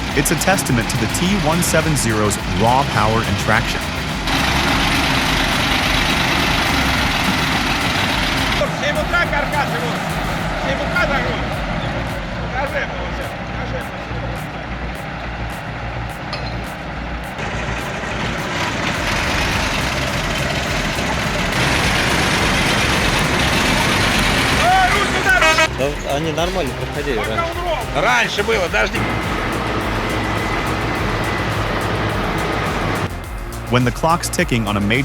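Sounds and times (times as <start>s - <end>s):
heavy diesel engines rumbling: 0.0s - 35.0s.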